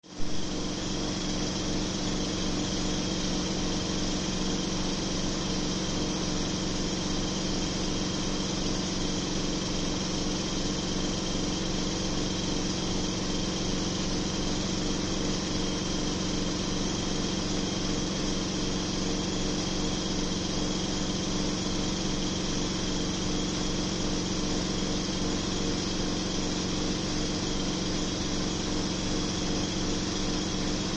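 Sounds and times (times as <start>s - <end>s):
small motor running with hiss: 0.1s - 30.9s.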